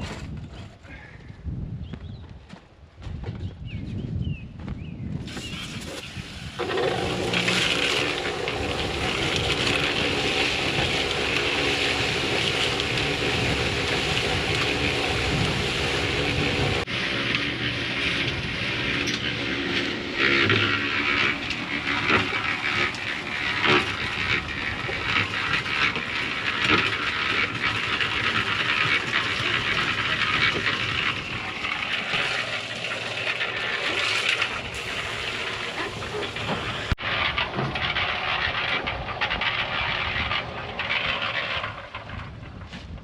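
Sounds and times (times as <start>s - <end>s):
concrete being mixed: 5.2s - 43.0s.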